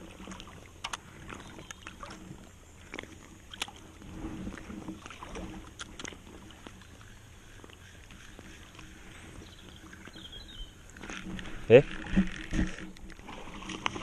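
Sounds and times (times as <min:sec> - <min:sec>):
light water noise: 0:00.0 - 0:14.0.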